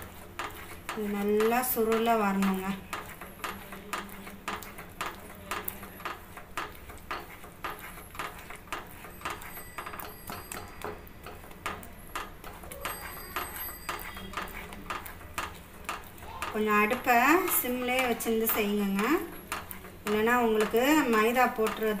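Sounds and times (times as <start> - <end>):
wooden spatula scraping pan: 0.0 - 22.0.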